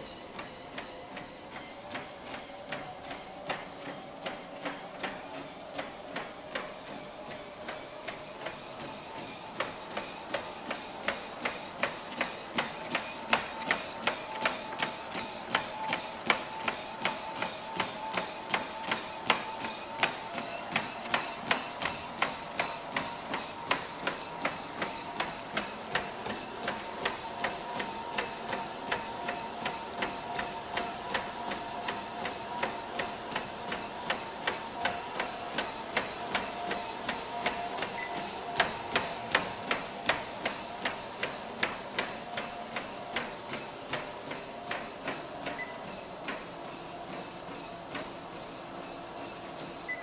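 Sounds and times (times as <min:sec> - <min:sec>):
treadmill whine and hiss: 0:00.0 - 0:50.0
footfalls on treadmill belt: 0:00.3 - 0:50.0.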